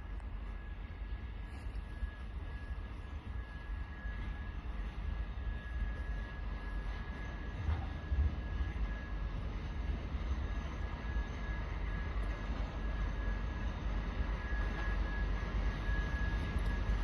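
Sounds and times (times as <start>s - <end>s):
locomotive low rumble: 0.0s - 17.0s.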